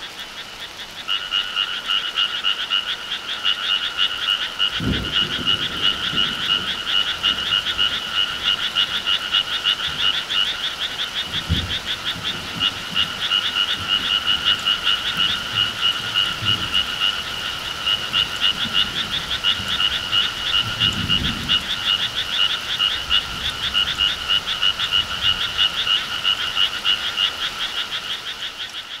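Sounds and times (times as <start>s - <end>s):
frogs croaking in chorus: 0.0s - 29.0s.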